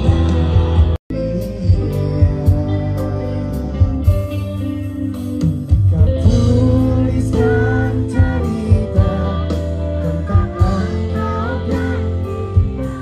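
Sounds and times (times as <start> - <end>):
guitar: 0.0 - 13.0
man singing: 0.0 - 13.0.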